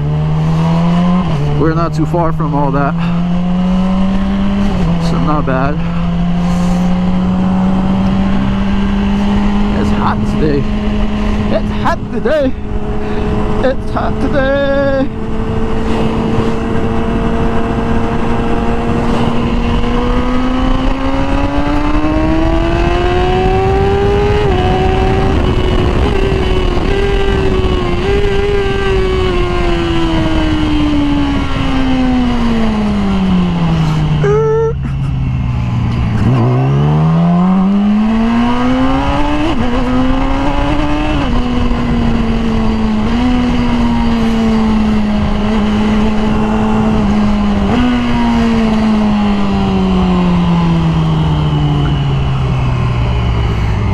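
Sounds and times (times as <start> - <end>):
sport bike engine revving: 0.0 - 53.9.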